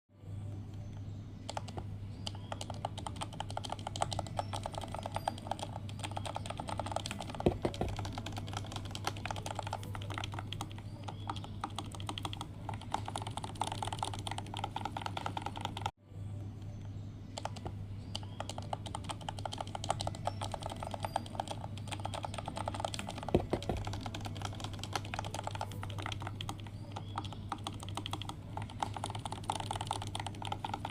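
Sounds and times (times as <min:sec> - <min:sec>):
mechanical keyboard typing: 0:01.5 - 0:15.9, 0:17.4 - 0:30.9.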